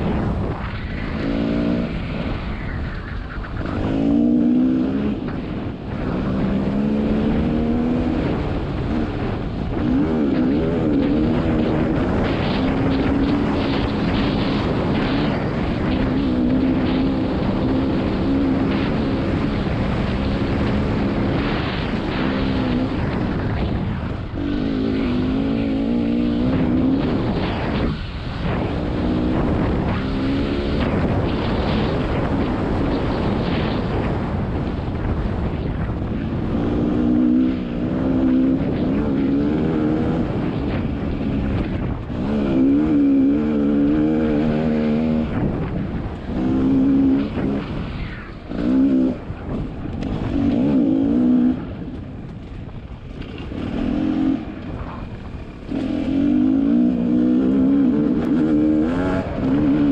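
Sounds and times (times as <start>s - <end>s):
dirt bike engine running: 0.0s - 59.9s
wind noise on microphone: 0.0s - 59.9s.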